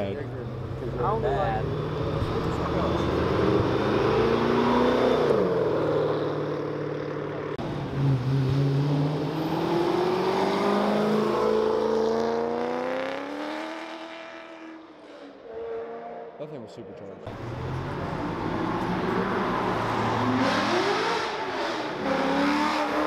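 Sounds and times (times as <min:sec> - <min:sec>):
car engine accelerating: 0:00.0 - 0:14.6, 0:17.3 - 0:23.0.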